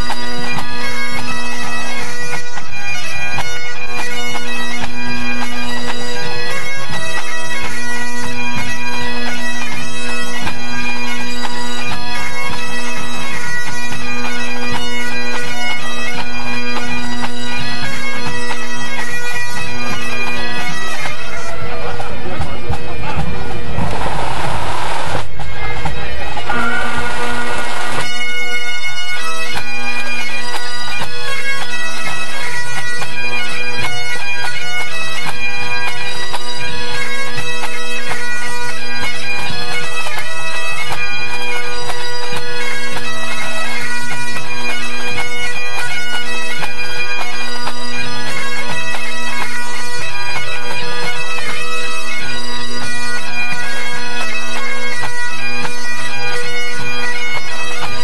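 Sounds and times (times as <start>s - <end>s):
bagpipes playing: 0.0s - 58.0s.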